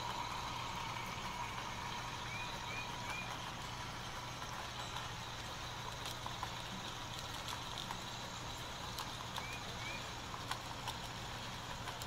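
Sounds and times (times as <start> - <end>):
model train wheels clicking: 0.0 - 12.0
steady low hum: 0.0 - 12.0.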